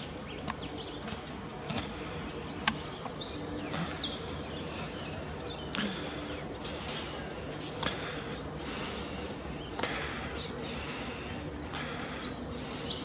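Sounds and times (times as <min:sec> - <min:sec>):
outdoor background noise: 0:00.0 - 0:13.0
wild birds chirping: 0:00.0 - 0:13.0.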